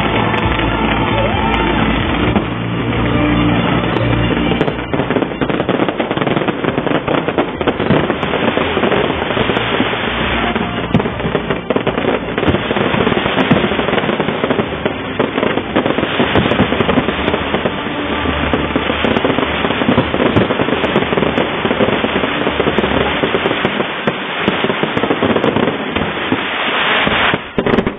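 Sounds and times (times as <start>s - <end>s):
fireworks bursting and crackling: 0.0s - 27.9s.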